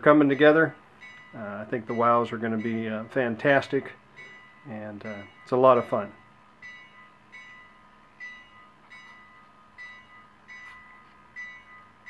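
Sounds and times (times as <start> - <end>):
locomotive bell through small speaker: 0.0 - 12.0.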